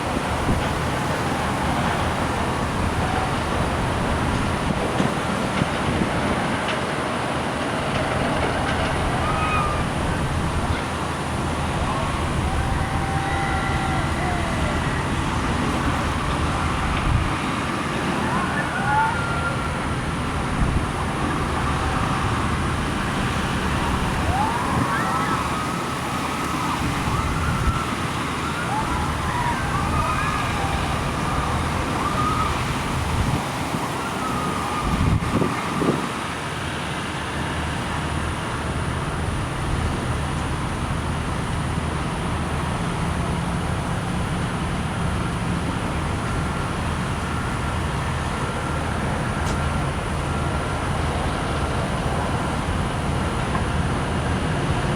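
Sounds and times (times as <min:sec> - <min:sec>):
low engine drone: 0:00.0 - 0:54.9.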